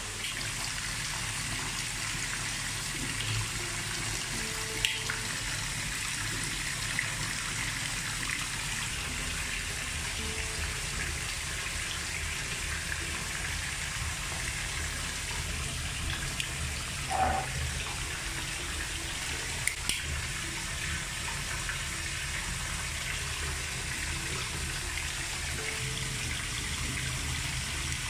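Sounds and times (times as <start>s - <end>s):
bath tap running: 0.0s - 28.0s.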